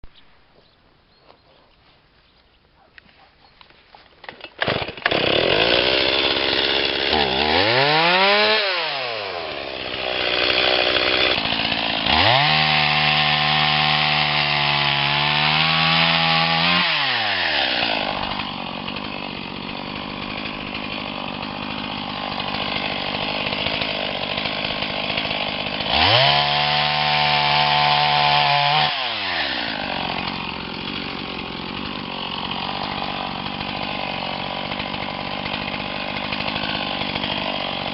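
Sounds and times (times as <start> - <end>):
chainsaw idling and revving: 4.2 - 37.9.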